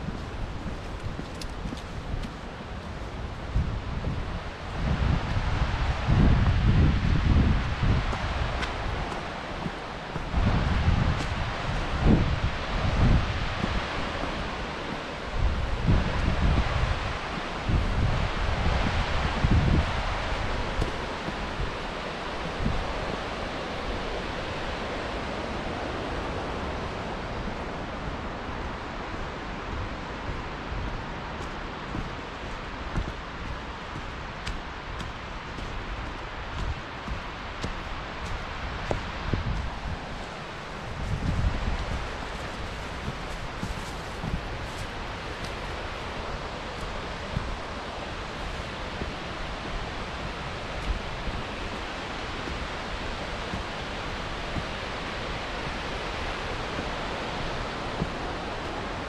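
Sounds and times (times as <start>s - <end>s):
footsteps on path: 0.0s - 27.7s, 28.5s - 59.0s
waterfall roaring: 0.0s - 59.0s.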